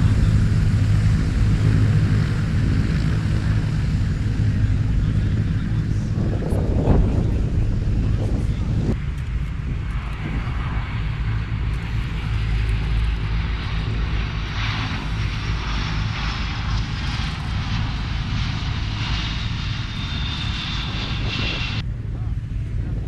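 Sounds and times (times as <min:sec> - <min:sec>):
aircraft engine running: 0:00.0 - 0:23.0.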